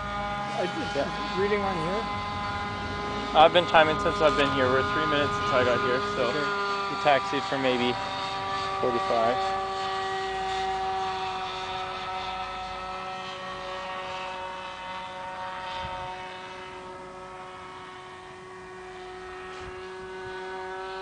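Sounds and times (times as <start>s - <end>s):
model airplane motor droning: 0.0s - 21.0s.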